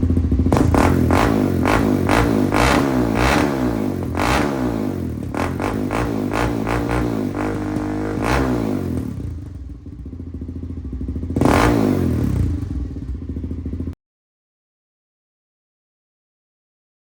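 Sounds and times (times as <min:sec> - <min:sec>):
quad bike engine revving: 0:00.0 - 0:13.9.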